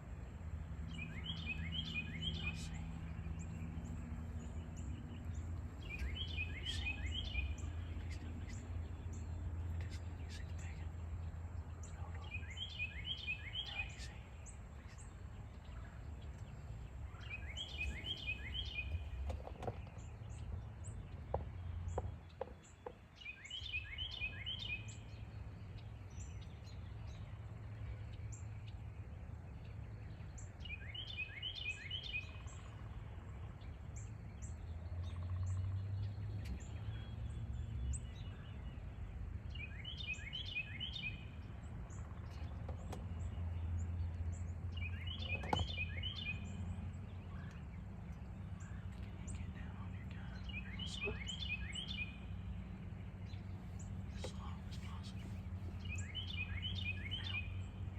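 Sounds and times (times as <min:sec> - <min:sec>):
low steady rumble: 0:00.0 - 0:57.9
songbird singing: 0:00.0 - 0:57.9.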